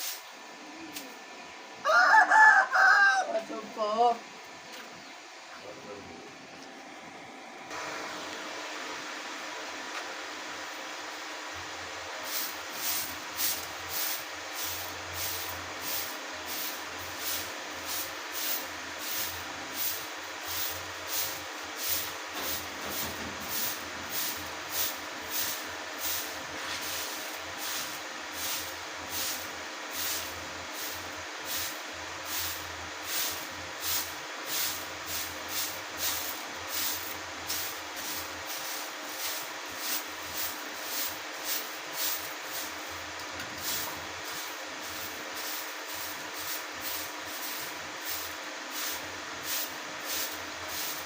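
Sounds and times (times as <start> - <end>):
steady background hiss: 0.0 - 51.0.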